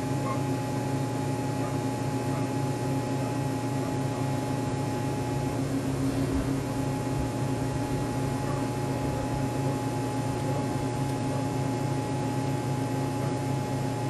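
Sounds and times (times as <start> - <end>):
arc welder humming and hissing: 0.0 - 14.0.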